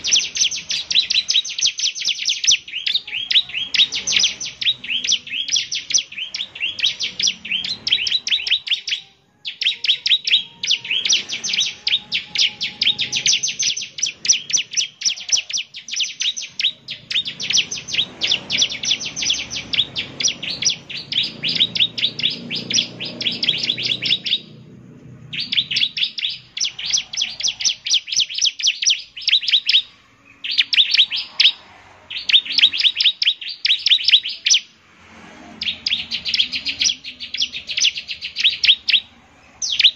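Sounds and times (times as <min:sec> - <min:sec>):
bird singing rapid trills: 0:00.0 - 0:34.8, 0:35.6 - 0:39.9.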